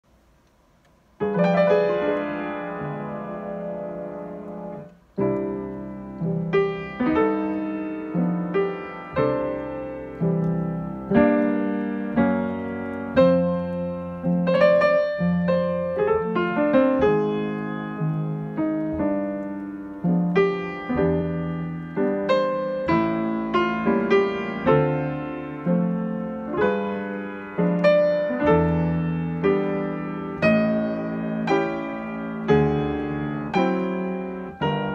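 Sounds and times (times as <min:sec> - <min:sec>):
slow piano piece: 0:00.1 - 0:34.9.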